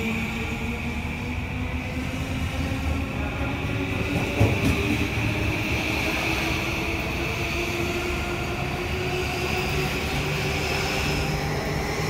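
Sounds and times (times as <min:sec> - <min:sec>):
high train whine: 0:00.0 - 0:12.0
train rumbling past: 0:00.0 - 0:12.0.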